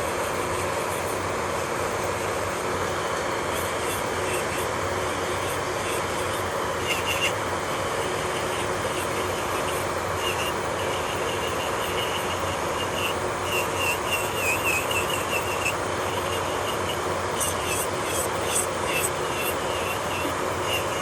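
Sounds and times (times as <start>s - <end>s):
electric nail drill whirring: 2.4s - 21.0s.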